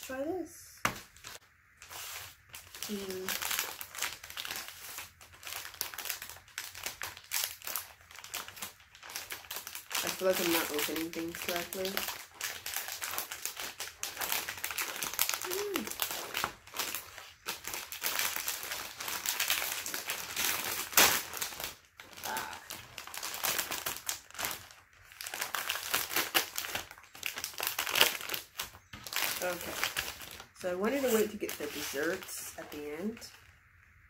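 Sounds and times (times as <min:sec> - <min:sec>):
plastic wrapper crinkling: 0:00.9 - 0:33.6.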